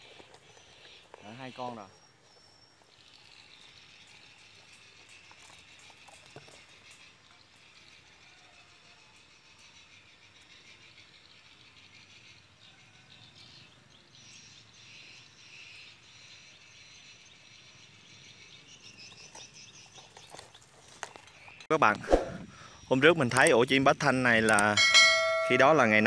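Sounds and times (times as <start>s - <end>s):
insects chirping: 0.0s - 12.5s, 14.5s - 26.0s
bird calls: 0.0s - 23.6s.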